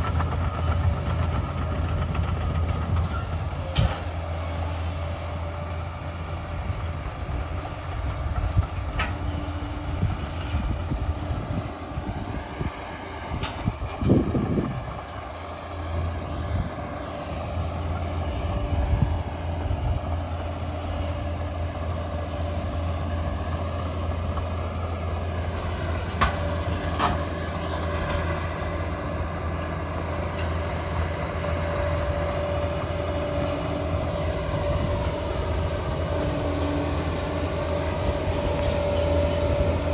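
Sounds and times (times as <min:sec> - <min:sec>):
diesel engine running: 0:00.0 - 0:39.9
steel tracks clattering: 0:00.0 - 0:39.9.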